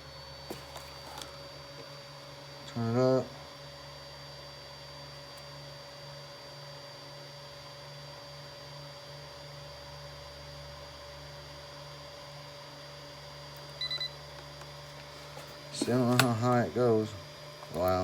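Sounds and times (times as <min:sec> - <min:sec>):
soldering station electrical hum: 0:00.0 - 0:18.0.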